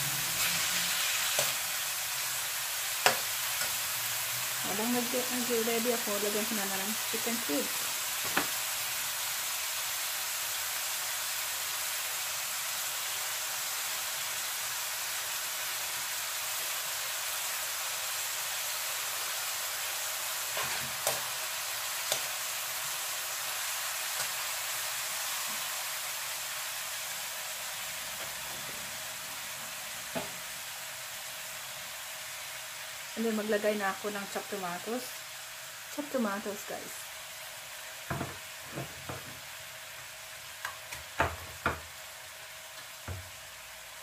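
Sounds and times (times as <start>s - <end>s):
meat and onion sizzling in a wok: 0.0s - 44.0s.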